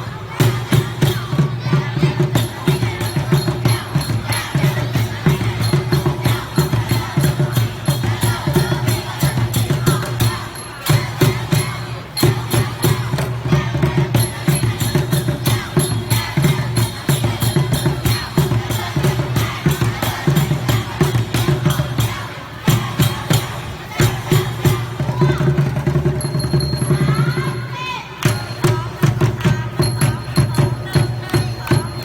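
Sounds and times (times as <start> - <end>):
music with fast percussion beat: 0.0 - 32.0.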